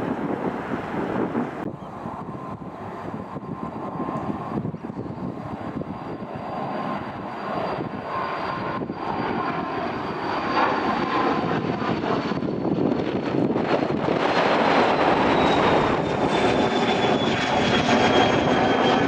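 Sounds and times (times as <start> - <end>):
aircraft engines whining: 0.0 - 19.0.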